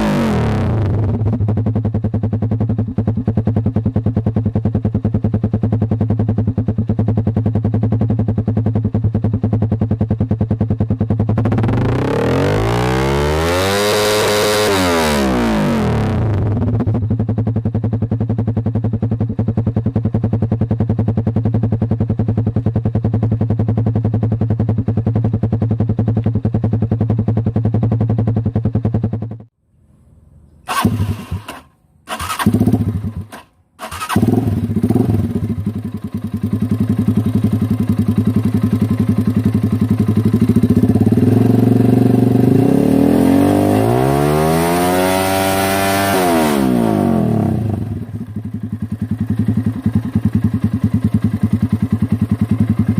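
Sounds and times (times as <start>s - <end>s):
motorcycle engine at high revs: 0.0s - 29.5s, 30.7s - 52.9s.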